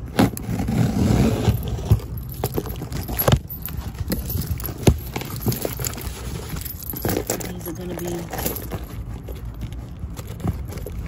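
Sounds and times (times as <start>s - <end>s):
cardboard boxes being handled: 0.0s - 11.0s
keys jangling: 1.3s - 11.0s.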